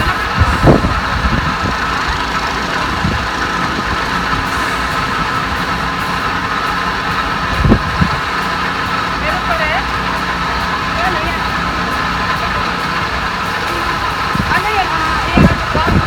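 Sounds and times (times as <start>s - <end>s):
engine knock: 0.0s - 16.0s
engine running with whine: 0.0s - 16.0s.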